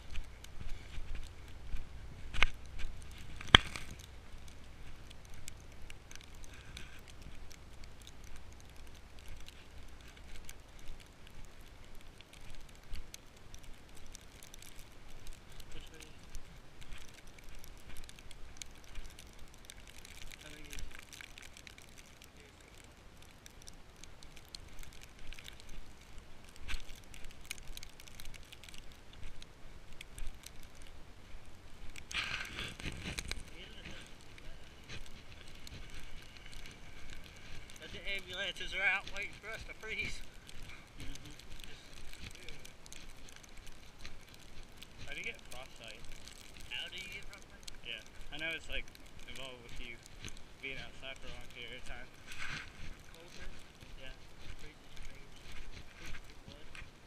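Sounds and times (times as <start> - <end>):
footsteps crunching through snow: 0.0 - 57.0
steady low rumble: 0.0 - 57.0.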